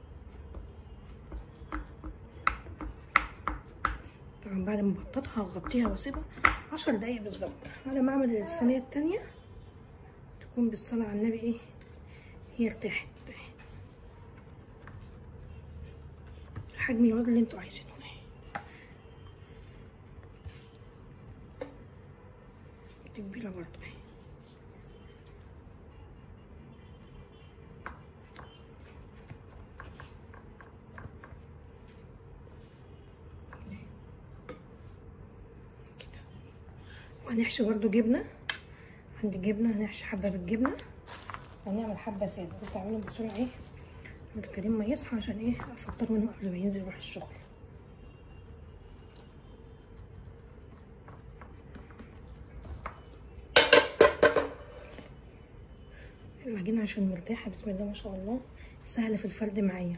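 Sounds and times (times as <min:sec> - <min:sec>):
hands patting dough on tray: 0:00.0 - 0:26.2, 0:26.8 - 0:59.9.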